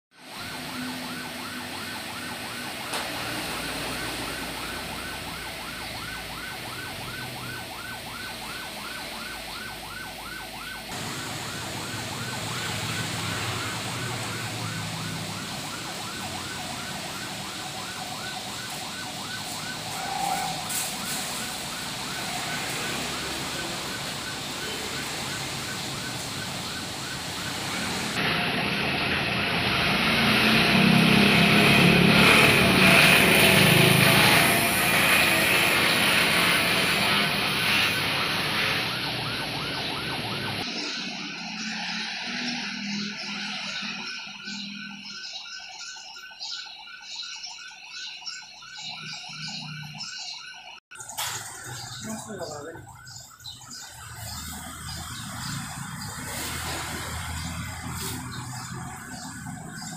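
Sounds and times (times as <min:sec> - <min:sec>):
ambulance siren yelping: 0:00.1 - 0:59.9.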